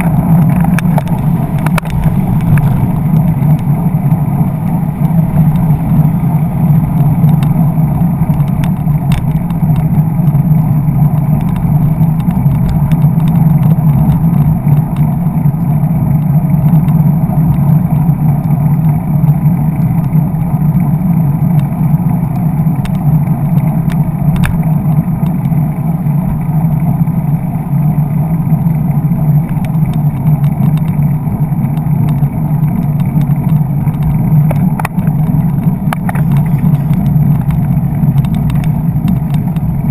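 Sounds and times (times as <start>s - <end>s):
passing traffic: 0.0s - 39.9s
road noise: 0.0s - 39.9s
wind rumble: 0.0s - 39.9s.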